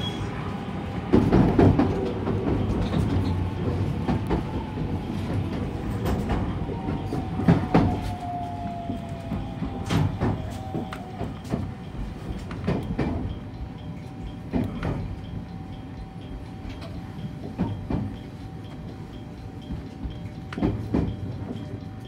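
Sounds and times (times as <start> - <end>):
train rumble: 0.0 - 22.0
train wheels clacking over joints: 0.0 - 22.0.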